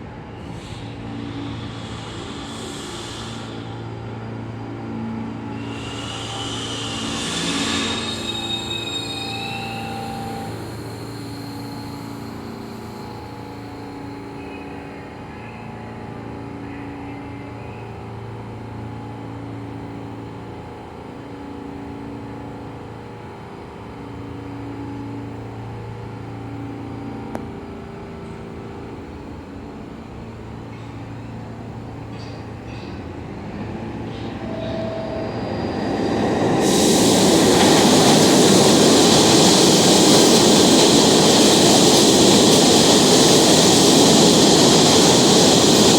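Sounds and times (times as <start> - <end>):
subway station hum: 0.0 - 45.9
subway train approaching: 0.0 - 45.9.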